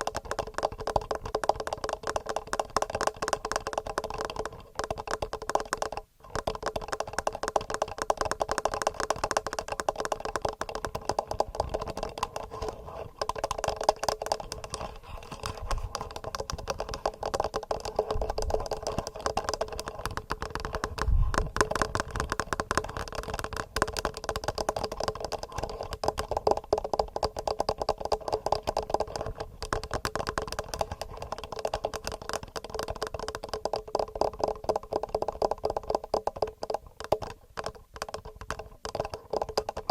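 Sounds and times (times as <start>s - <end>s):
fingernails tapping on microphones: 0.0s - 39.9s.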